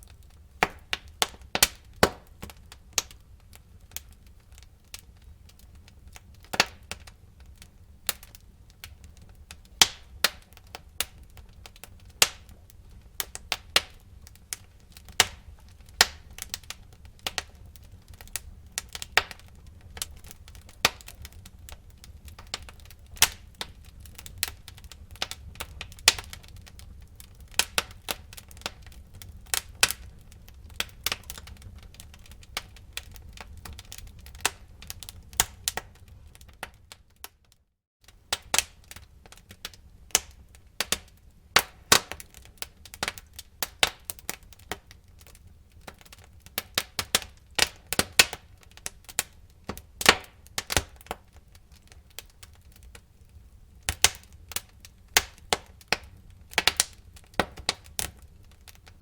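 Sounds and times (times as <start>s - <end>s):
low rumble of flames: 0.0s - 37.4s, 38.0s - 59.0s
wood fire crackling and popping: 0.0s - 59.0s.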